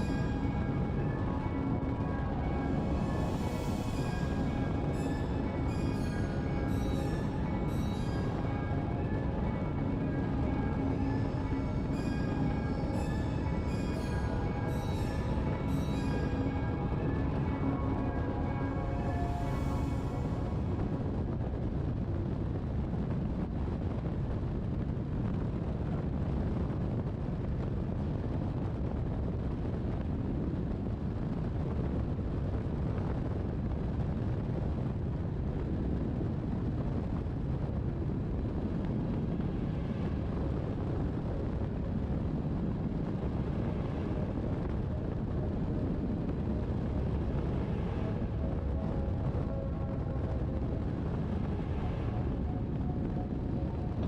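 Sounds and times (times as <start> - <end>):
wind rushing over microphone: 8.2 - 54.0.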